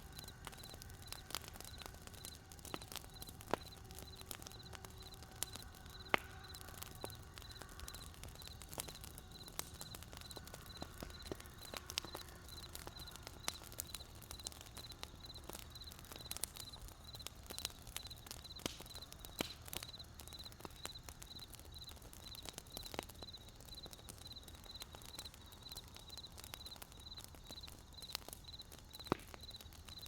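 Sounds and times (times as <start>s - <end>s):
campfire crackling: 0.0s - 30.0s
cricket chirping: 0.0s - 30.0s.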